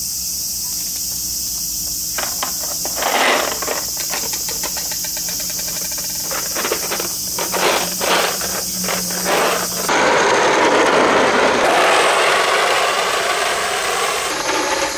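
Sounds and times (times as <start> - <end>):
insects hissing: 0.0 - 14.9
steady rough noise: 2.0 - 14.9.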